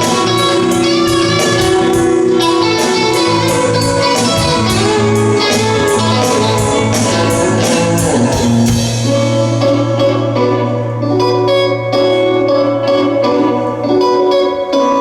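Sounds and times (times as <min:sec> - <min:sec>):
rock band playing instrumental: 0:00.0 - 0:15.0.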